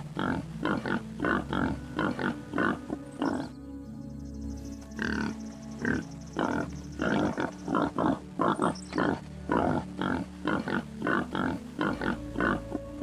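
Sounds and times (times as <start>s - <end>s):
animal grunting: 0.0s - 3.6s, 4.9s - 13.0s
quiet background music: 0.0s - 13.0s.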